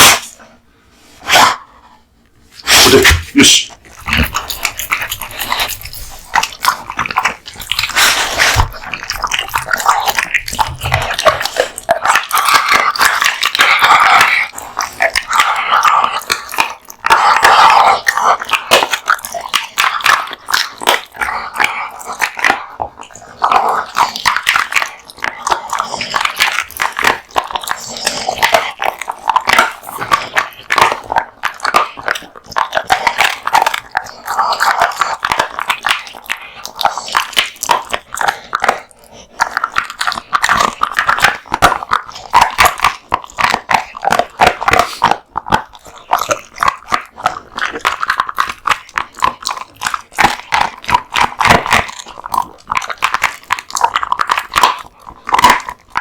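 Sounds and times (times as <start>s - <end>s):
dog chewing meat and bones: 0.0s - 56.0s.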